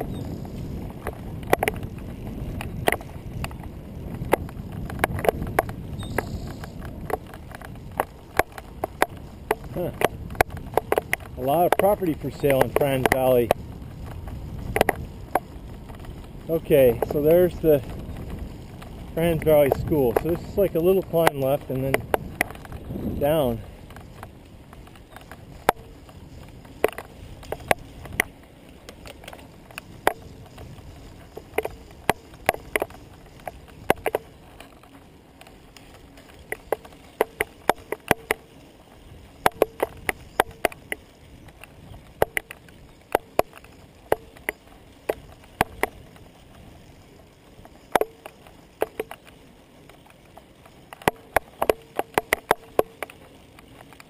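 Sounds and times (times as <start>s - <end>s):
wheels clacking and rattling: 0.0s - 54.0s
wheels rolling on asphalt: 0.0s - 54.0s.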